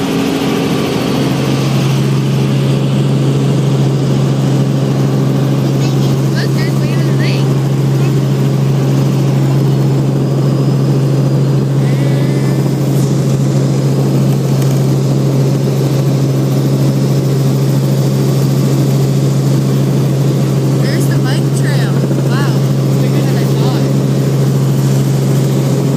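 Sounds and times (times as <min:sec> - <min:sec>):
helicopter engine and rotor drone: 0:00.0 - 0:25.9.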